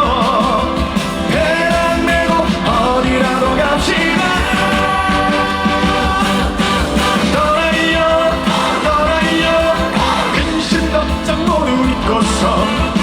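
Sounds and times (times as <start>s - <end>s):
live band playing upbeat song: 0.0s - 13.0s.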